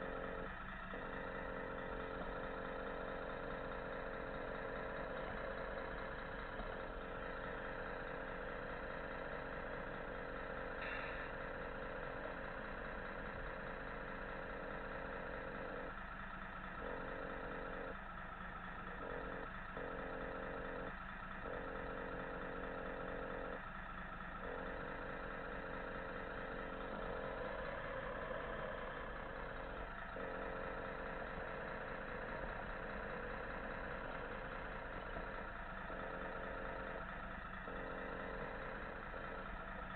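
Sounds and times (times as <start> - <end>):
engine sound module idling drone: 0.0 - 39.9.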